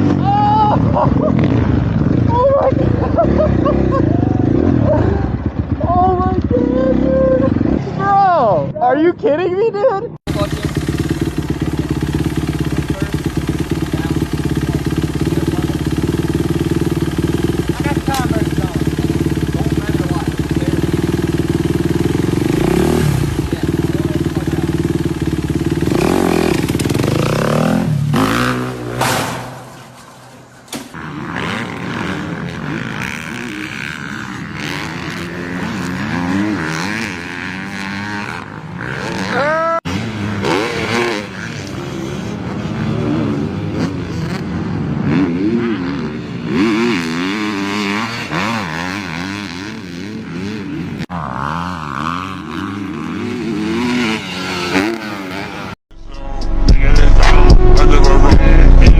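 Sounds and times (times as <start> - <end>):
small engines running and revving: 0.0 - 9.2, 10.2 - 55.8.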